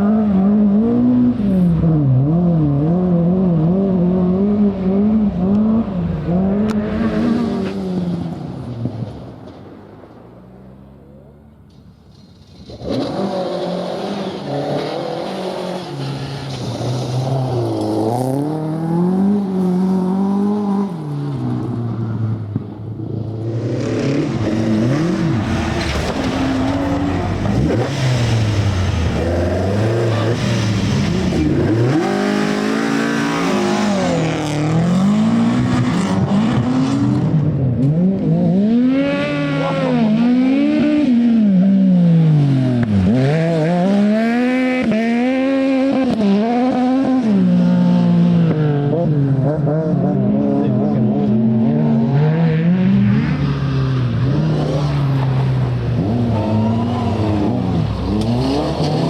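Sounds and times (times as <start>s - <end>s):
rally car engine revving: 0.0s - 9.4s, 10.9s - 59.0s.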